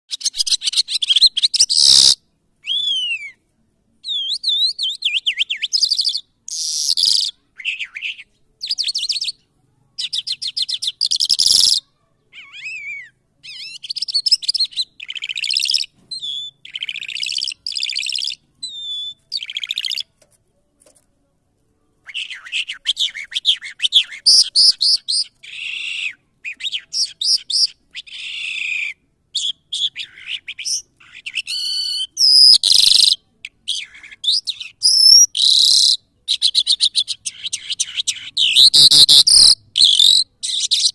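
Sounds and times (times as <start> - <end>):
lark singing: 0.1 - 3.4, 4.0 - 9.4, 10.0 - 20.1, 22.0 - 40.9.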